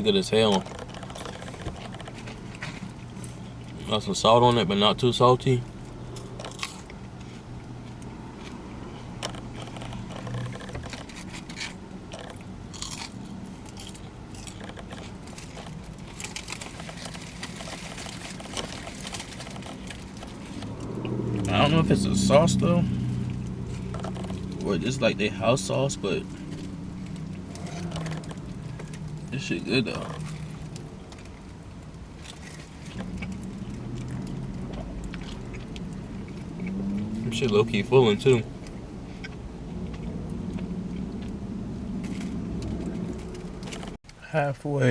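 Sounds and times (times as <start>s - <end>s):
car engine idling: 0.0s - 44.0s
steady low hum: 0.0s - 44.2s
person chewing and crunching food: 0.3s - 4.2s, 5.6s - 44.0s.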